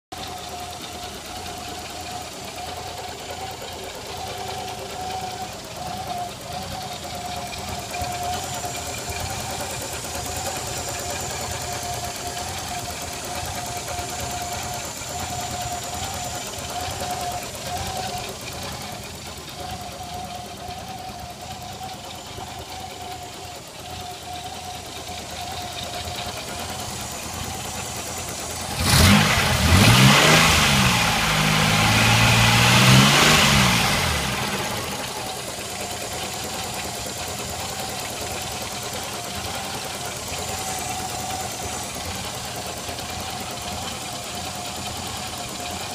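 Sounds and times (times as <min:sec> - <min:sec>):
car engine idling: 0:00.0 - 0:45.9
engine revving: 0:00.2 - 0:23.3, 0:24.2 - 0:45.9
vacuum leak whistle: 0:02.1 - 0:45.4.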